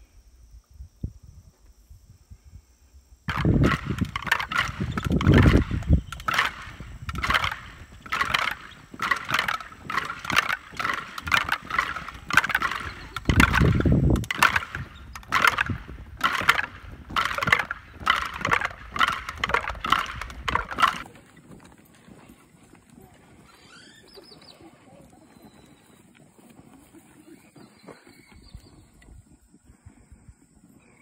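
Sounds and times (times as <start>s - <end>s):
marching feet on gravel: 3.3s - 28.9s.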